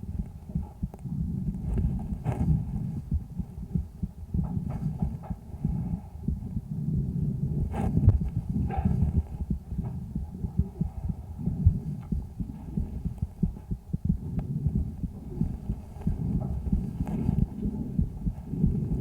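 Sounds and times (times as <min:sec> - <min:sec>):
heartbeat: 0:00.0 - 0:19.0
low-pitched breath sounds: 0:00.0 - 0:19.0.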